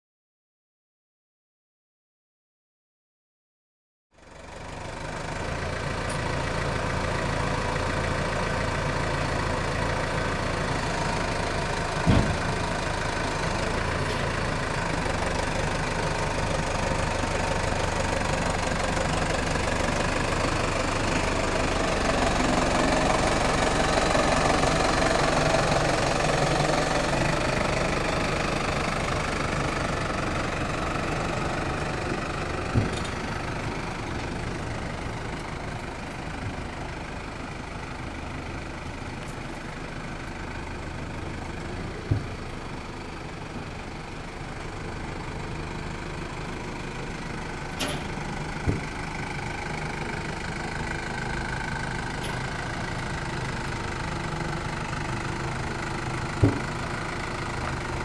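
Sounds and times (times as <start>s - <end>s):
tractor diesel engine running: 4.2s - 58.0s.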